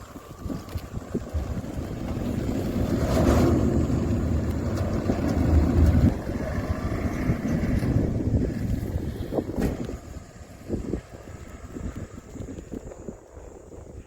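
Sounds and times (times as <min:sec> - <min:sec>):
motorcycle running: 0:00.0 - 0:13.1
wind buffeting microphone: 0:00.0 - 0:14.0.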